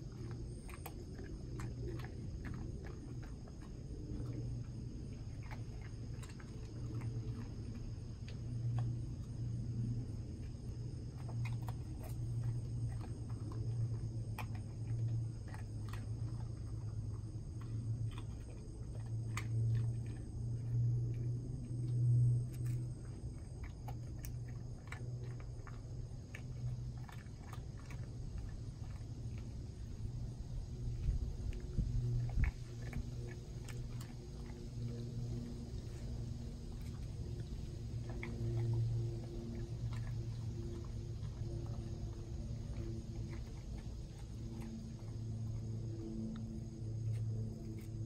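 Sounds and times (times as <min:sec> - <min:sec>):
dog crunching crackers: 0:00.0 - 0:48.0
steady low hum: 0:00.0 - 0:48.0.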